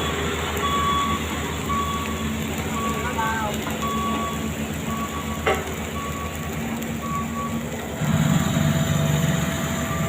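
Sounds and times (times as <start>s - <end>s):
reversing alarm beeping: 0.0s - 6.4s, 7.0s - 8.8s, 9.7s - 10.0s
diesel engines running: 0.0s - 10.0s.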